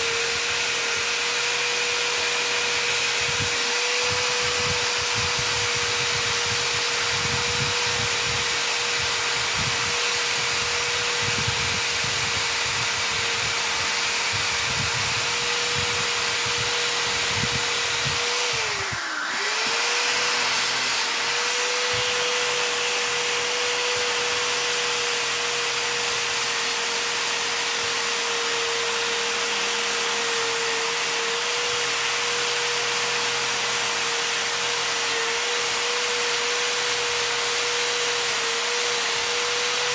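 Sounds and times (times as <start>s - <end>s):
electric grinder whining: 0.0s - 39.9s.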